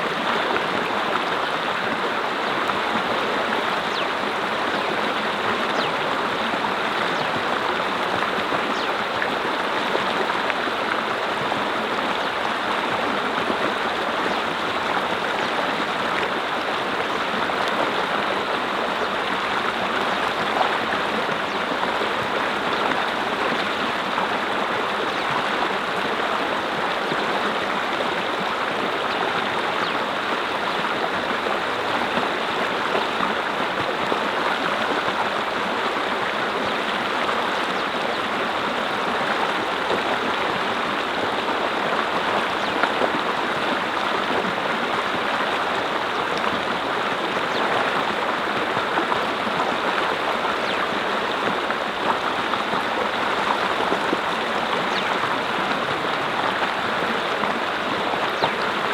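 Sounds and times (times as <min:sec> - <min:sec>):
water rushing over rocks: 0:00.0 - 0:58.9.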